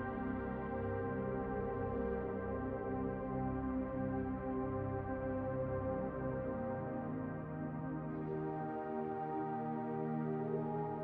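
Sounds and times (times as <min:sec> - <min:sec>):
ambient synthesizer music: 0:00.0 - 0:11.0.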